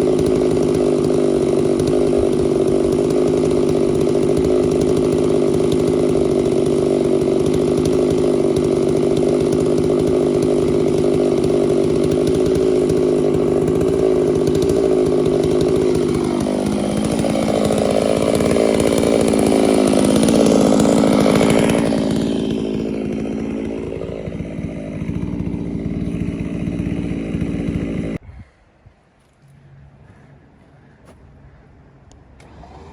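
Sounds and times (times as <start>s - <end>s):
chainsaw cutting wood: 0.0s - 28.2s, 32.4s - 32.9s.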